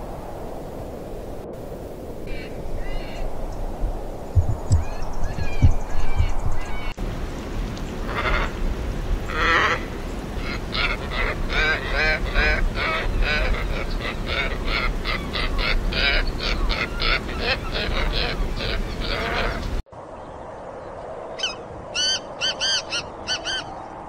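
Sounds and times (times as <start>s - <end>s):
ibis calling: 2.3s - 3.7s, 4.3s - 19.8s, 21.4s - 23.8s.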